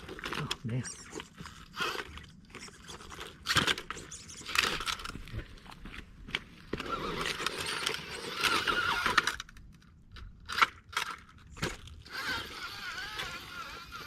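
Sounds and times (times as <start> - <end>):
toy car electric motor whining: 0.0 - 5.2, 6.7 - 9.6, 10.5 - 14.0
sharp clicks and crunches: 0.0 - 14.0.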